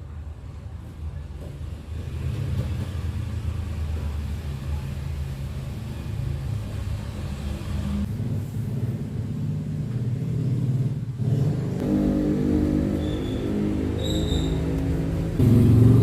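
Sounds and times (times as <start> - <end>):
vehicle engine rumbling: 0.7 - 16.0.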